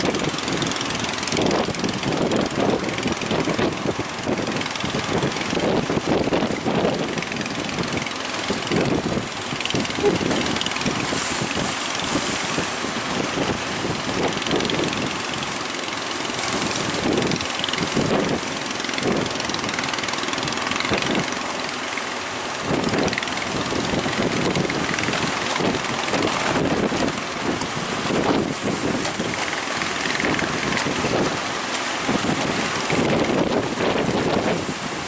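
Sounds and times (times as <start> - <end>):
wind buffeting microphone: 0.0 - 21.5, 22.6 - 35.0
big waves breaking: 0.0 - 35.0.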